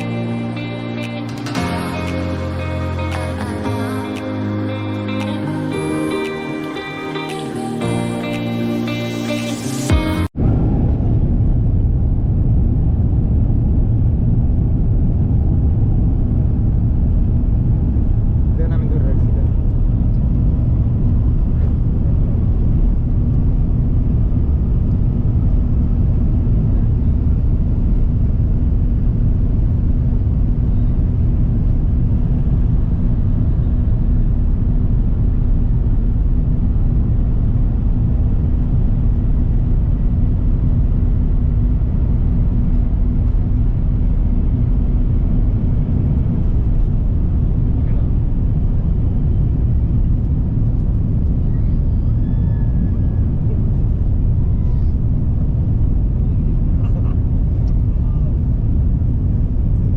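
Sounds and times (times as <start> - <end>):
jet engine rumble in cabin: 10.3 - 59.9.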